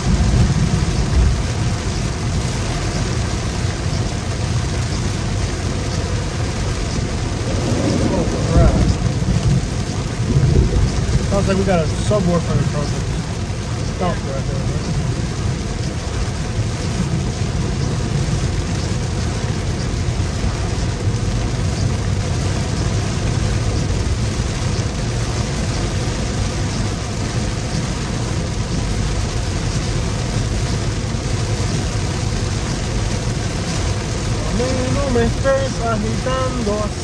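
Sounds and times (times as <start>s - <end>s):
rain hissing: 0.0s - 37.0s.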